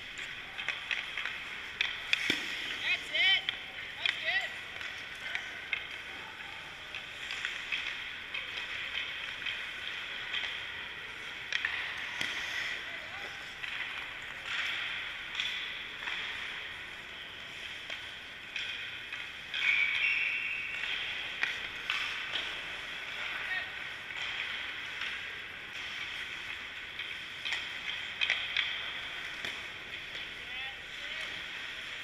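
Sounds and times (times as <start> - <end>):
skates scraping on ice: 0.0 - 32.0
stick clacking on puck: 0.1 - 10.7, 11.3 - 30.4.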